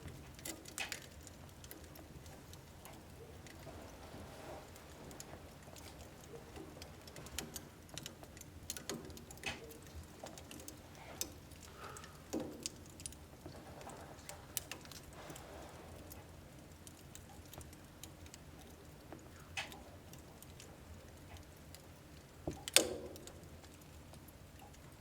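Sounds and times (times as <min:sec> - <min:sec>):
low rumble of flames: 0:00.0 - 0:25.0
pops and ticks from burning logs: 0:00.0 - 0:25.0
wood fire crackling: 0:00.0 - 0:25.0.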